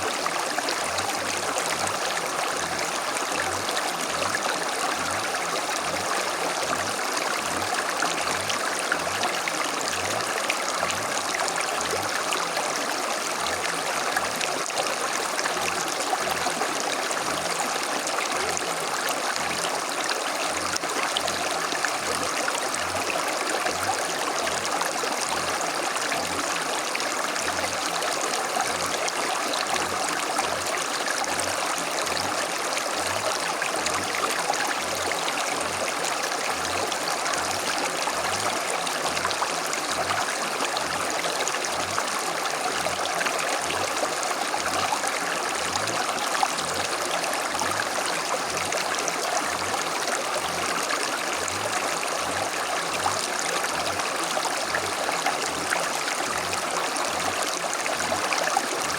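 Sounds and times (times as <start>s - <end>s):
creek water flowing: 0.0s - 58.9s.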